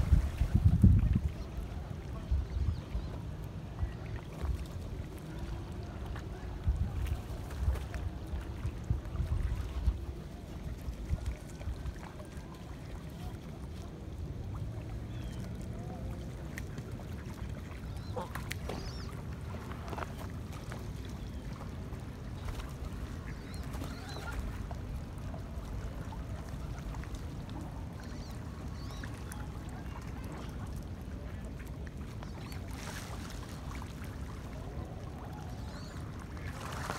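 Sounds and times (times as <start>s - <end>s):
water: 0.0s - 36.9s
wind: 0.0s - 36.9s.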